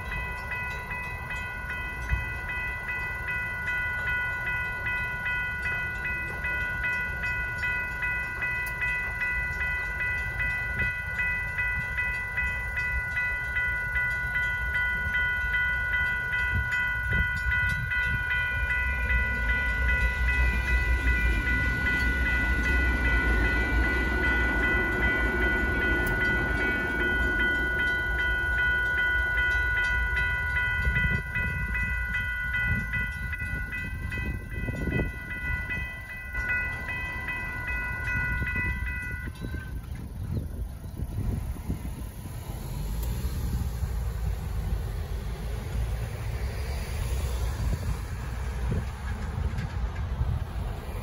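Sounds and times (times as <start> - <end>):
light rail train rumbling past: 0.0 - 51.0
railroad crossing bells ringing: 0.0 - 51.0.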